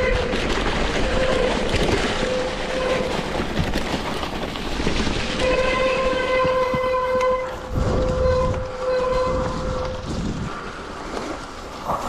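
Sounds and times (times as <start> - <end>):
tyre and wind noise: 0.0 - 12.0.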